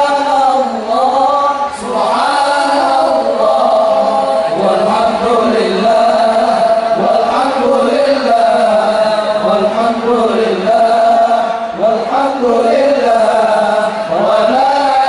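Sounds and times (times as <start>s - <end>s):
voices singing devotional chant: 0.0s - 15.0s.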